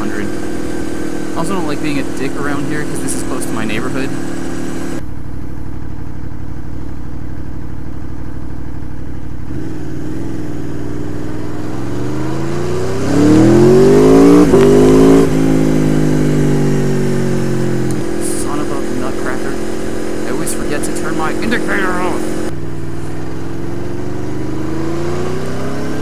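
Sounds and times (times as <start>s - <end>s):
motorcycle engine revving: 0.0s - 5.0s, 5.6s - 26.0s.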